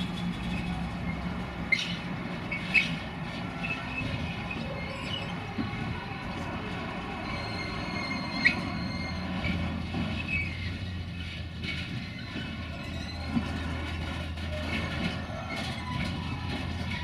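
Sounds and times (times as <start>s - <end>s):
train wheels squealing: 0.0s - 3.0s, 3.6s - 5.5s, 7.1s - 17.0s
low train drone: 0.0s - 17.0s.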